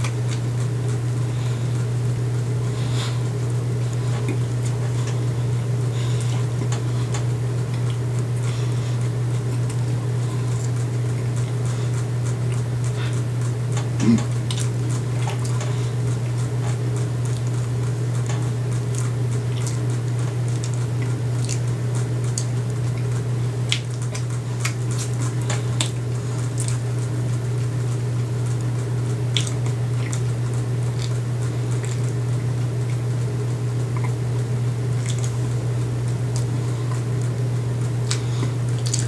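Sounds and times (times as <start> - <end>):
chewing with wet squishing: 0.0 - 39.0
steady low hum: 0.0 - 39.0.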